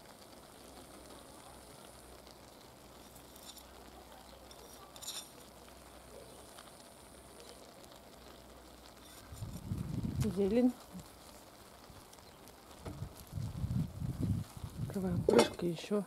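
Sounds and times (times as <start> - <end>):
soft crackles: 0.0 - 16.0
stew sizzling: 0.0 - 16.0.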